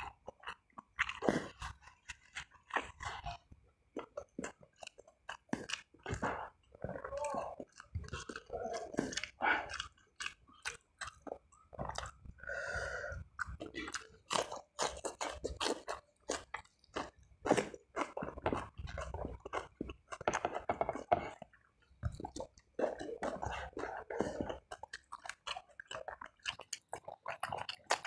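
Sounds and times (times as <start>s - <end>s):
wet chewing and biting: 0.0s - 28.0s.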